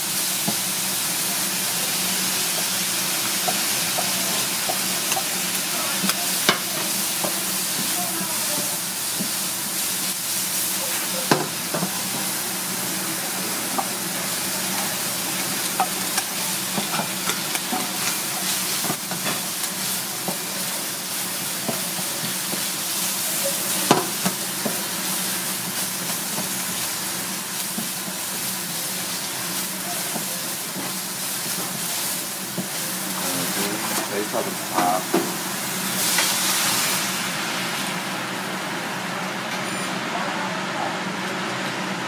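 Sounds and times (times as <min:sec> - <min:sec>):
food sizzling in a wok: 0:00.0 - 0:42.0.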